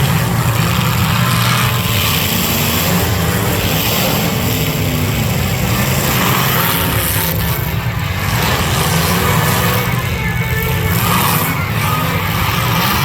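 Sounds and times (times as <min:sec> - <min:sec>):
car engines revving loudly: 0:00.0 - 0:13.0.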